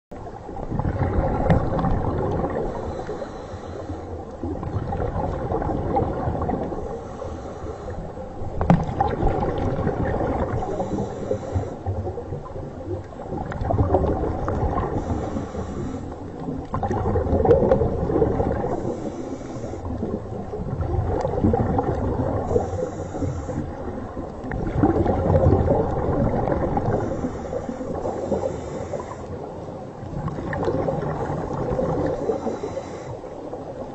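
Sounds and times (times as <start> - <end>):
underwater gurgling rumble: 0.1 - 33.9.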